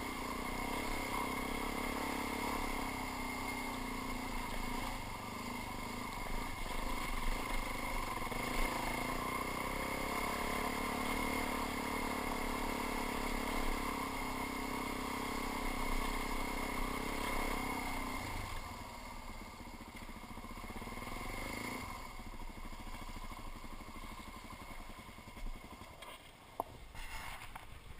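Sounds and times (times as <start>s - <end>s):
dirt bike engine: 0.0s - 27.9s.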